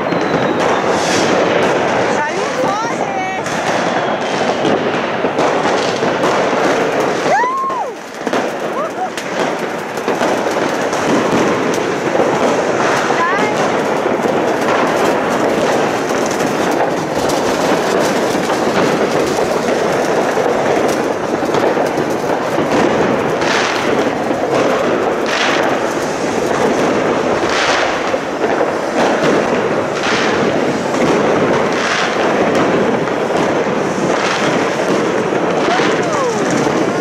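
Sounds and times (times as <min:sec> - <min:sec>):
firework fountains hissing crackle: 0:00.0 - 0:37.0.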